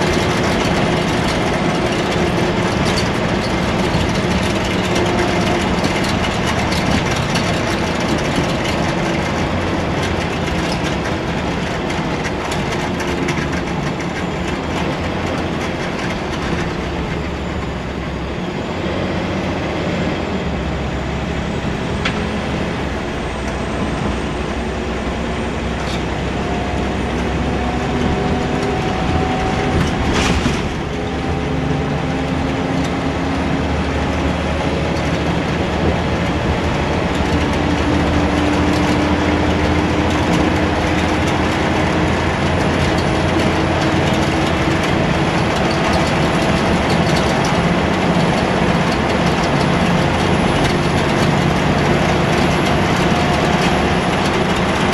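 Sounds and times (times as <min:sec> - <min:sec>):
bus engine and road noise: 0:00.0 - 0:54.9.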